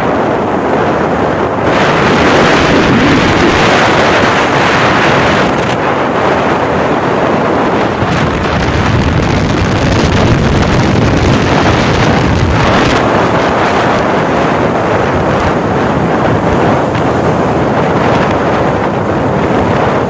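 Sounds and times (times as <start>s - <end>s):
motorcycle road and engine noise: 0.0s - 20.0s
wind buffeting microphone: 0.0s - 20.0s.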